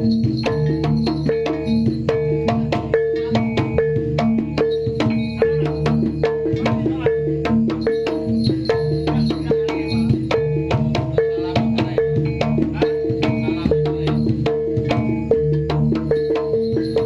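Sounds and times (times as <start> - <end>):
drum and percussion strokes: 0.0 - 17.0
pitched metal notes: 0.0 - 17.0.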